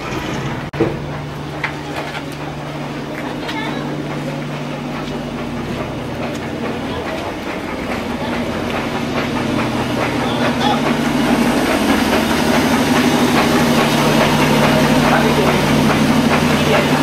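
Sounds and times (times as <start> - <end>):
grain mill humming and rattling: 0.0 - 17.0.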